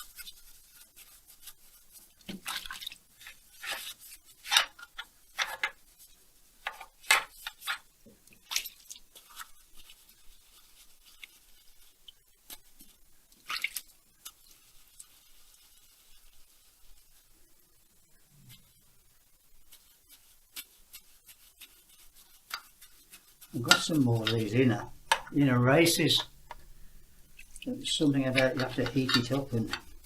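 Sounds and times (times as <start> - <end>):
brush scrubbing engine parts: 0.0 - 13.6, 19.5 - 30.0.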